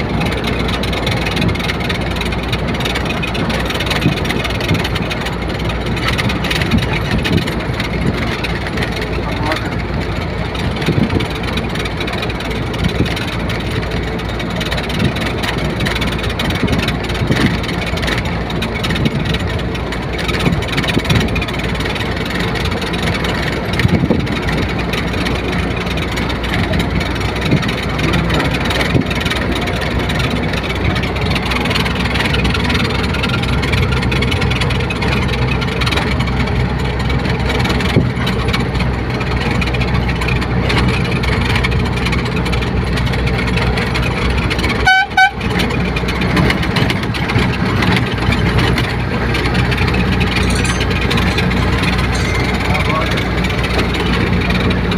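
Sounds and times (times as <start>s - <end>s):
truck engine running: 0.0s - 54.9s.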